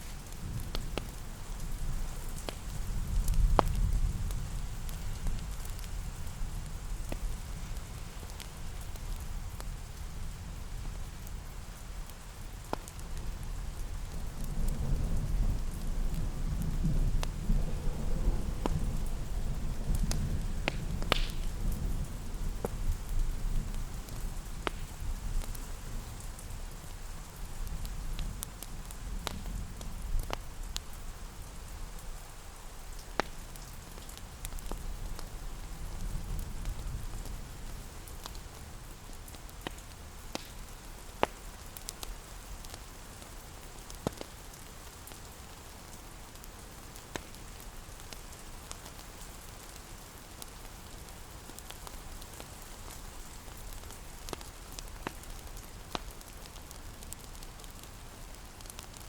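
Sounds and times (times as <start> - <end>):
rain hissing against a window: 0.0 - 59.0
wood fire crackling and popping: 0.0 - 59.0.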